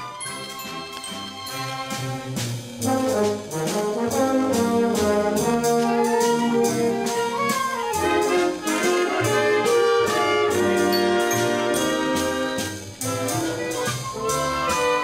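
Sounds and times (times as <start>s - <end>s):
orchestra with brass: 0.0s - 15.0s.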